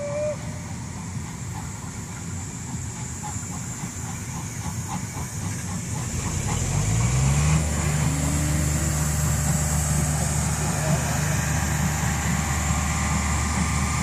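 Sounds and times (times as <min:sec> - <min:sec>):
low engine drone: 0:00.0 - 0:14.0
steam locomotive rumbling: 0:00.0 - 0:14.0.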